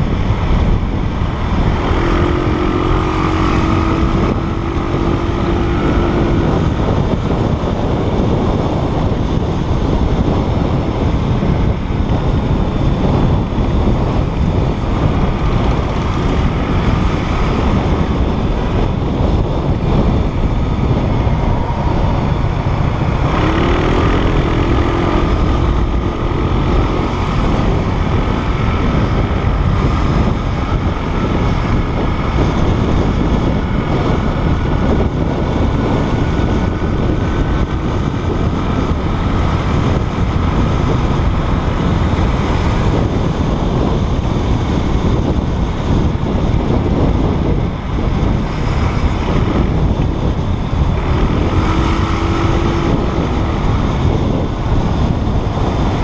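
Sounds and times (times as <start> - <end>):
motorbike engine and road noise: 0.0 - 56.0
wind buffeting microphone: 0.0 - 56.0.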